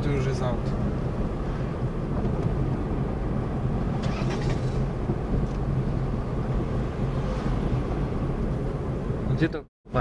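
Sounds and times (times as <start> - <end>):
car interior engine hum: 0.0 - 10.0.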